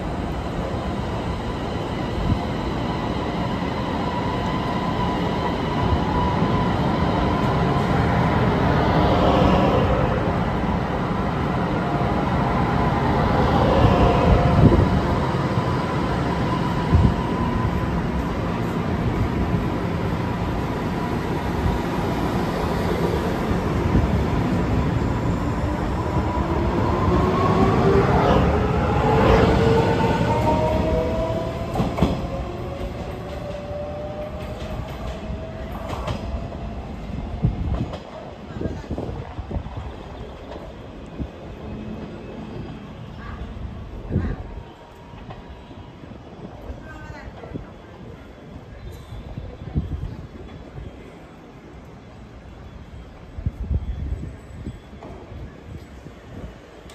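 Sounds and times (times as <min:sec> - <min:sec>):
train rolling rumble: 0:00.0 - 0:56.9.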